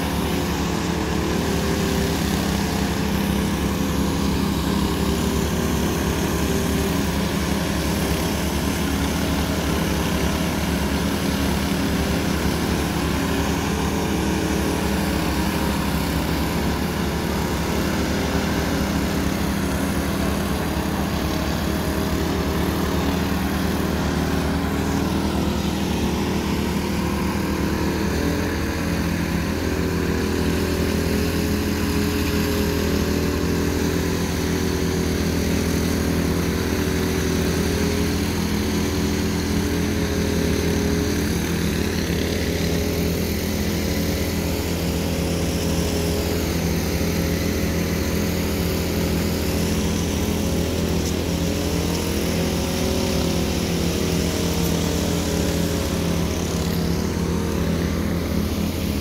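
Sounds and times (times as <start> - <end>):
engine droning steadily: 0.0 - 59.0.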